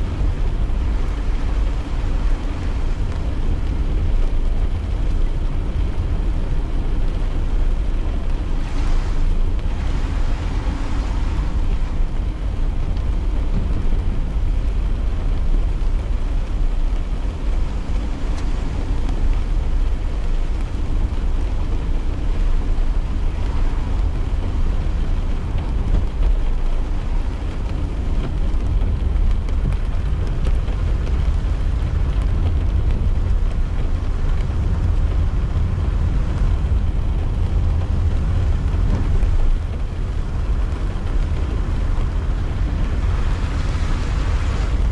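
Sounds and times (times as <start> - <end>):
car rumbling on wet road: 0.0 - 44.9
light rain on car: 0.0 - 44.9.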